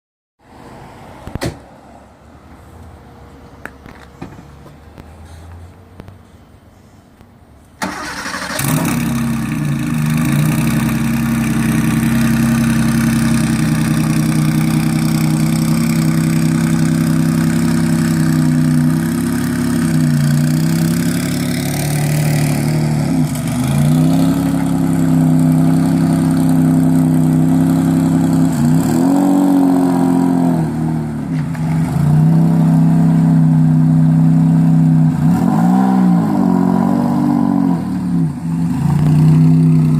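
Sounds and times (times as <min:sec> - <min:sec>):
car engine starting and idling: 0:07.6 - 0:39.9.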